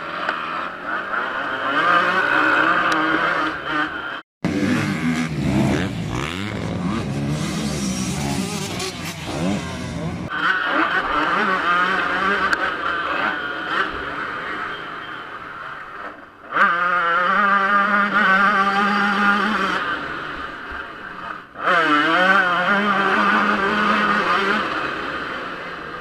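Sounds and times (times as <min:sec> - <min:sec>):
motocross bikes revving: 0:00.0 - 0:26.0
two-stroke dirt bike revving: 0:00.0 - 0:26.0.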